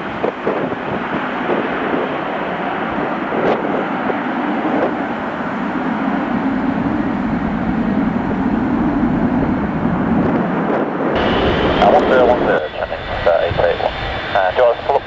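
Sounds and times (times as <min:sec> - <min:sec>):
jet engines rumbling: 0:00.0 - 0:15.0
wind buffeting: 0:00.0 - 0:15.0.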